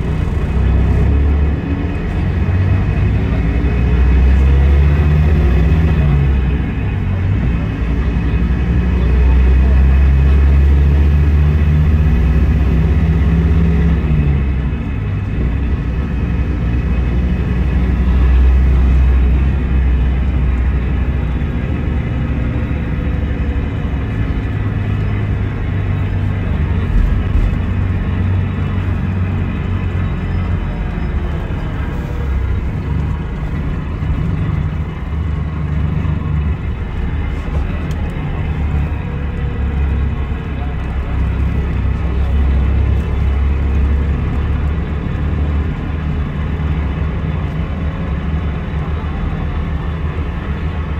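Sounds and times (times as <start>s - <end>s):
diesel coach engine rumble: 0.0s - 50.9s.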